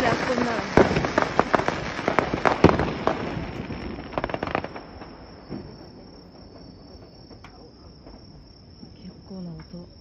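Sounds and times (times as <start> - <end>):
firework shells bursting: 0.0 - 8.3.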